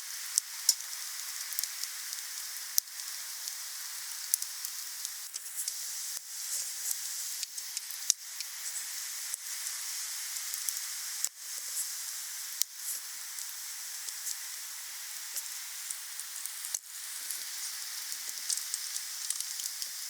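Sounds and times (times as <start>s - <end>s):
wood fire crackling: 0.2s - 20.0s.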